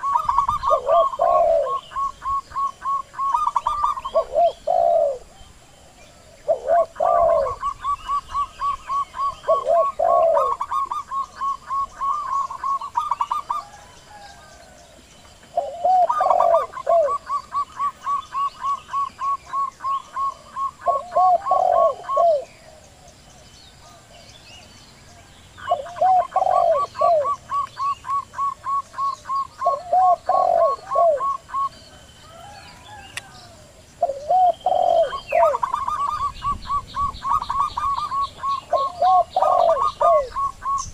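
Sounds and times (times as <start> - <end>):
doves cooing: 0.0 - 23.2, 25.2 - 40.9.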